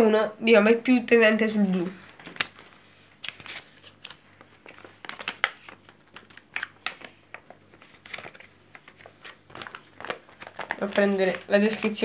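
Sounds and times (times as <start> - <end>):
paper leaflet crinkling: 1.5 - 12.0.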